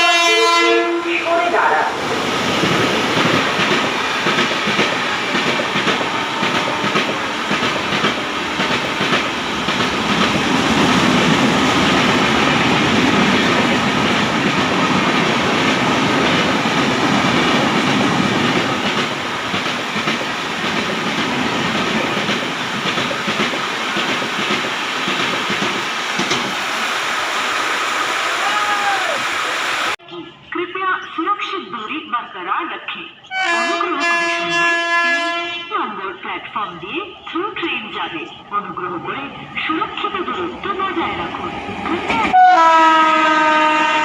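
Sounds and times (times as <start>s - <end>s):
train coaches rumbling and rattling: 0.0s - 27.8s, 31.8s - 44.0s.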